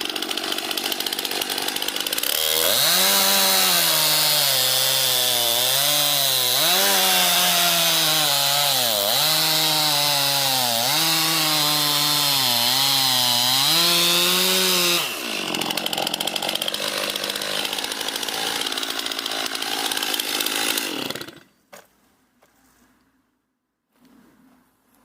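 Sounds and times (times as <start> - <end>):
chainsaw cutting wood: 0.0 - 21.6.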